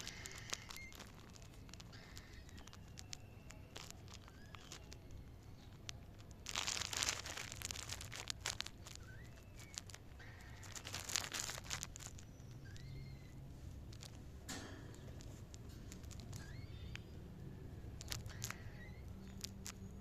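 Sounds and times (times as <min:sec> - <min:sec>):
cockatiel chirping: 0:00.0 - 0:20.0
crinkly rustling and scratching: 0:00.0 - 0:20.0.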